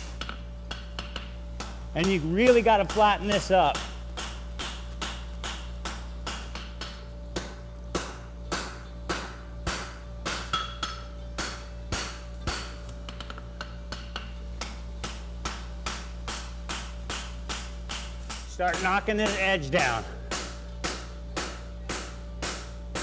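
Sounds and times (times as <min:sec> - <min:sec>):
hammer striking steel on anvil: 0:00.0 - 0:23.0.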